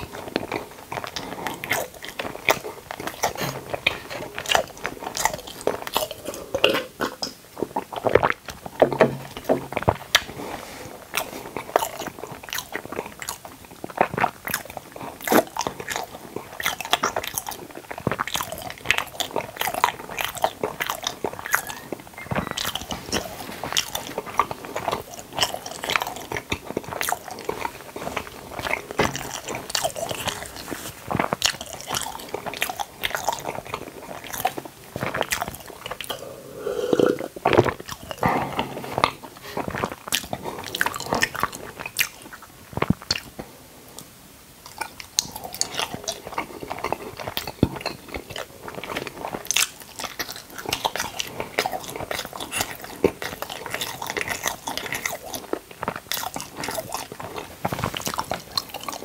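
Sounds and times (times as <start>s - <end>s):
close-miked chewing with crackles: 0.0s - 59.0s.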